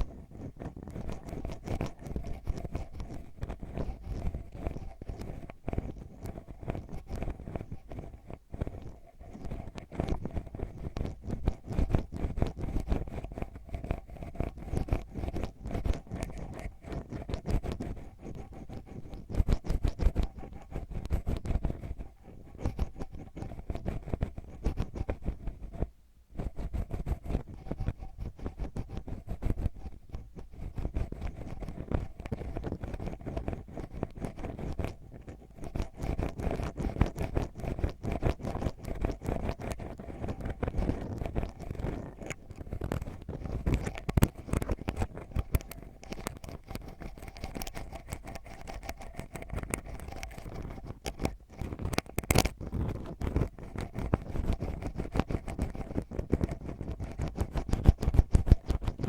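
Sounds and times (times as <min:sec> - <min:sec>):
ear pick scratching microphone: 0:00.0 - 0:59.0.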